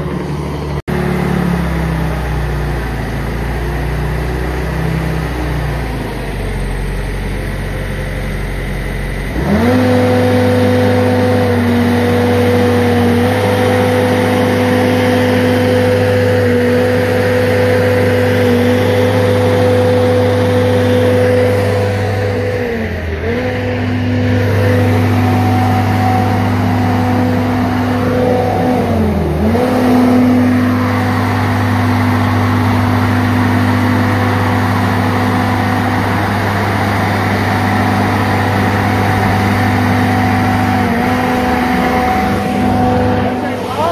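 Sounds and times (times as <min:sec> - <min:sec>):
loader engine revving: 0:00.0 - 0:43.9.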